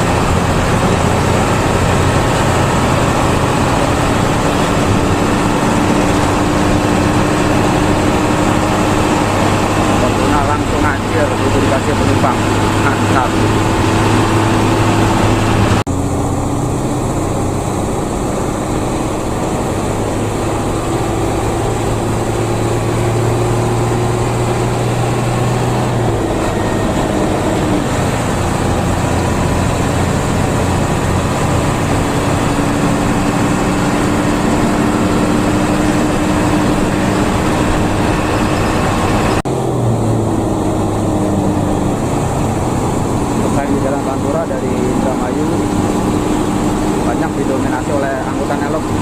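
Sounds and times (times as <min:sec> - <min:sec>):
bus engine humming: 0:00.0 - 0:49.0
road and cabin noise: 0:00.0 - 0:49.0.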